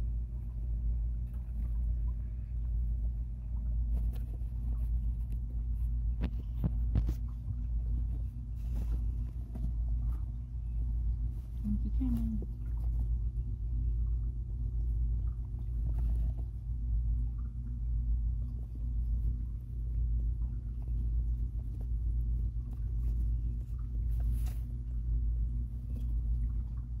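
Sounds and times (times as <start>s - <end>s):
guinea pigs rustling in paper bedding: 0.0s - 27.0s
low rumble with hum: 0.0s - 27.0s.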